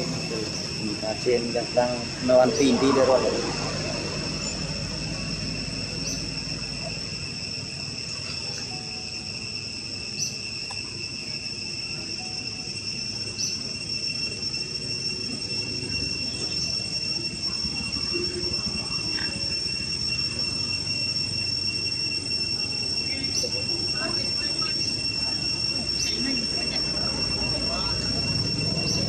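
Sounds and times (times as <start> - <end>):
high-pitched insect drone: 0.0 - 29.0.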